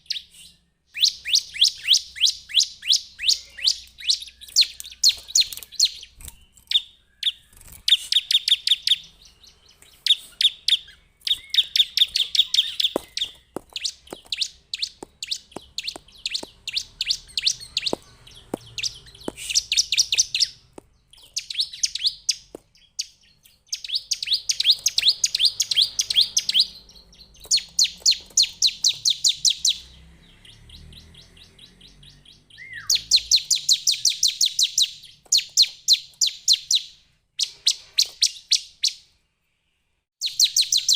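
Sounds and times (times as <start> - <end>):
bird singing rapid high chirps: 0.0 - 39.2, 40.2 - 40.9.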